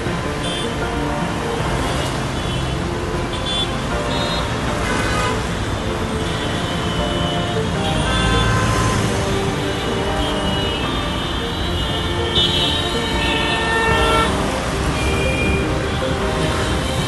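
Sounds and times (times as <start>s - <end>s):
background music: 0.0s - 17.0s
road traffic noise: 0.0s - 17.0s.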